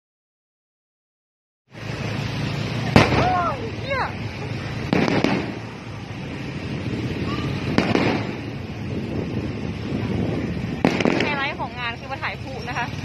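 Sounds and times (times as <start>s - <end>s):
noisy fireworks display background: 1.7s - 13.0s
fireworks bursting: 1.8s - 13.0s.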